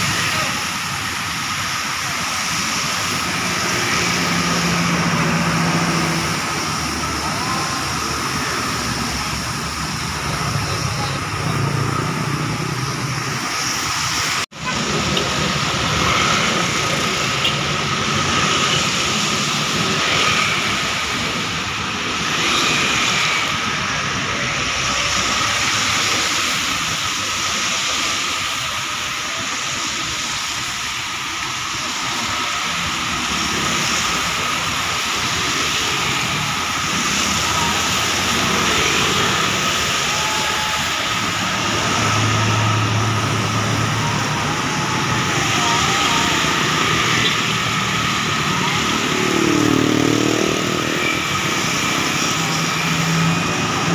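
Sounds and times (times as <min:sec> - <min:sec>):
tyres hissing on wet road: 0:00.0 - 0:53.9
vehicle engines passing: 0:00.0 - 0:53.9.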